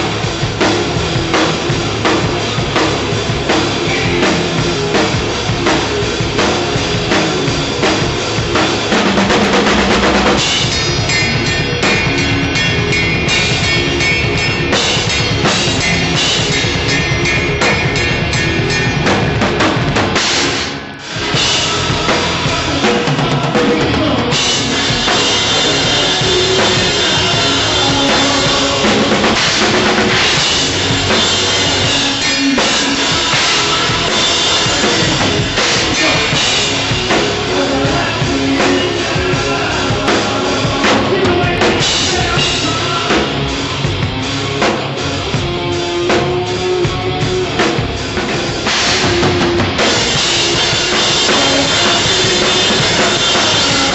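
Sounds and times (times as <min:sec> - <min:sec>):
rock band playing: 0:00.0 - 0:53.9.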